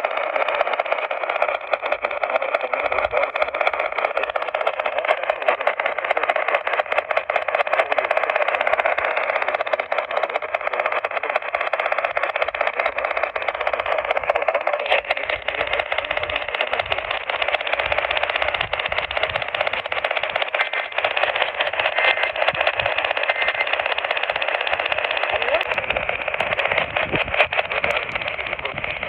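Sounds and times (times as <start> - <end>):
crackly radio static: 0.0 - 29.0.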